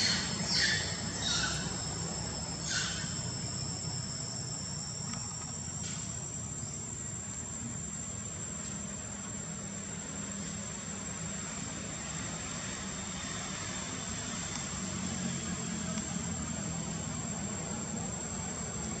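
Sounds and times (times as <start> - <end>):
insects calling: 0.0 - 19.0.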